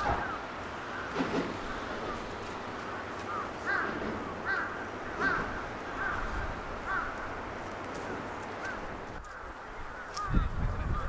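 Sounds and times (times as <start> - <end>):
bird calling: 0.0 - 11.0
steady background noise: 0.0 - 11.0.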